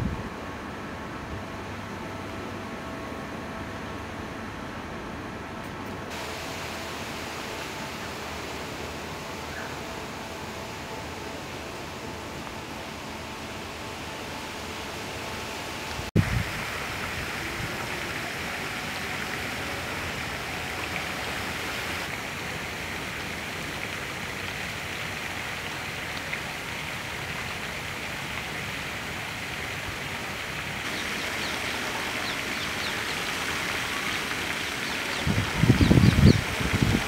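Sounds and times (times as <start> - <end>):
outdoor background hiss: 0.0 - 37.0.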